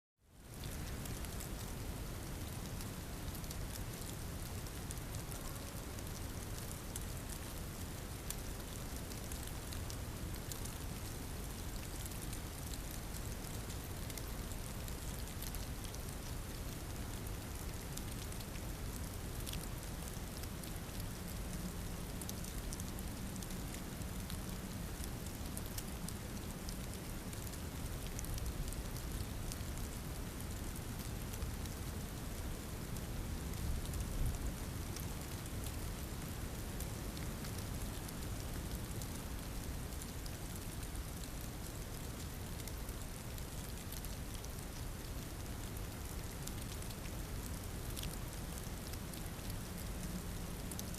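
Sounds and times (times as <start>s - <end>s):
rain patter and hiss: 0.2s - 50.9s.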